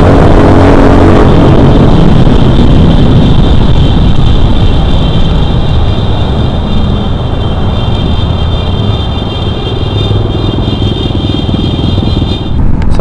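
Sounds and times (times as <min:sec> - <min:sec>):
high-pitched whine: 0:00.0 - 0:13.0
motorcycle engine drone: 0:00.0 - 0:13.0
wind buffeting microphone: 0:00.0 - 0:13.0.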